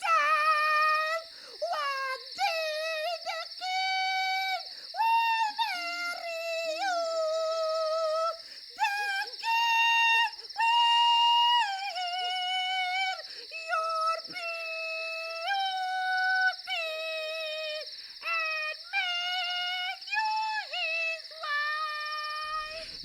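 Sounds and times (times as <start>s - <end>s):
old woman singing high: 0.0s - 23.0s.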